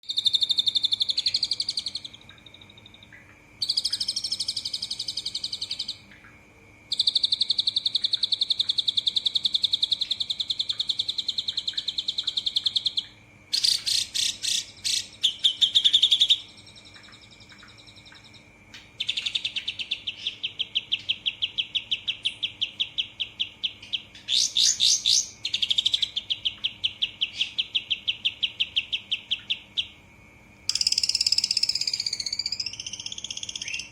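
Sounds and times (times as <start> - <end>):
songbird singing trilled phrases: 0.0 - 6.3, 6.9 - 30.0, 30.7 - 33.9
faint steady high tone: 0.0 - 24.2, 25.2 - 33.9.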